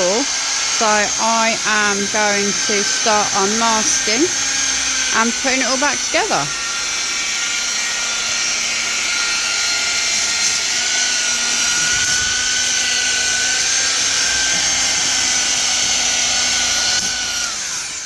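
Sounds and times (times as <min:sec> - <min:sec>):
electric polisher whining: 0:00.0 - 0:18.0.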